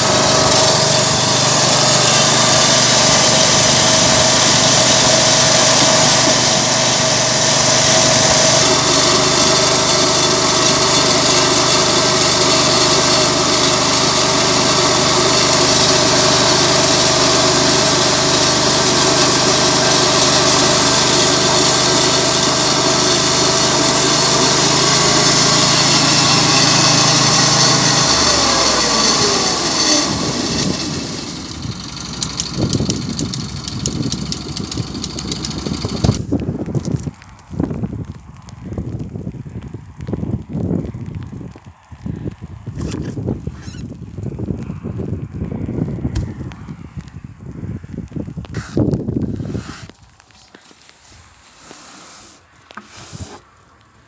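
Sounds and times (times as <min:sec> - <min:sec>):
chainsaw mill cutting log: 0:00.0 - 0:37.3, 0:42.8 - 0:44.2, 0:48.2 - 0:53.9.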